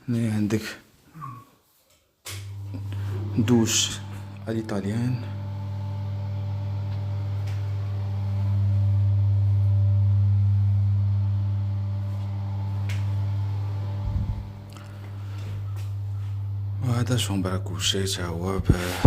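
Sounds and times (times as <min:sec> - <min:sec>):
low hum with overtones: 0:02.3 - 0:19.0.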